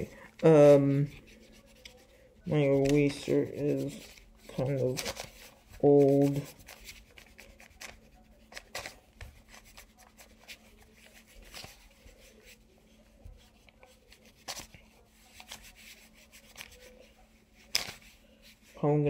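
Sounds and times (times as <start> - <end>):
eraser rubbing on paper: 0.6 - 18.8.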